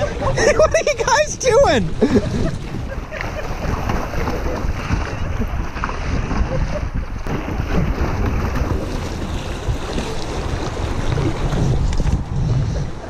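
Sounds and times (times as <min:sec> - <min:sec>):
paddle strokes splashing: 0:00.0 - 0:13.0
wind noise on microphone: 0:00.0 - 0:13.0.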